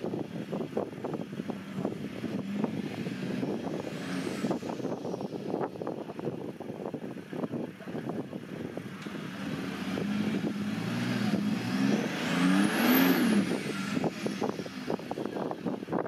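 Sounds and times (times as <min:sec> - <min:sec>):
off-road vehicle engine revving: 0:00.0 - 0:06.6, 0:07.3 - 0:16.0.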